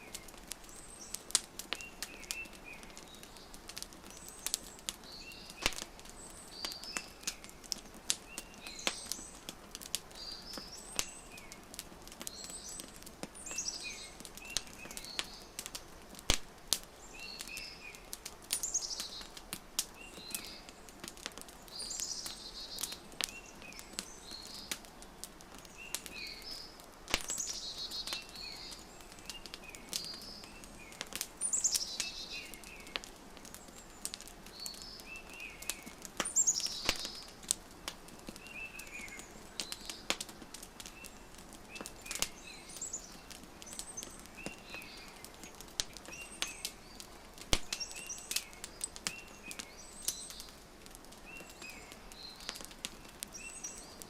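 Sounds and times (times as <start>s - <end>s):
songbirds chirping: 0.0s - 54.0s
wood fire crackling and popping: 0.0s - 54.0s.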